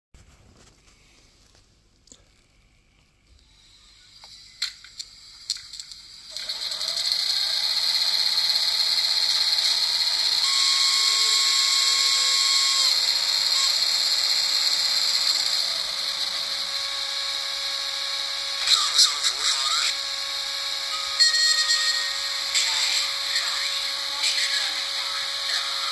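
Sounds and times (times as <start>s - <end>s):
small electric motor whirring: 3.4s - 25.9s.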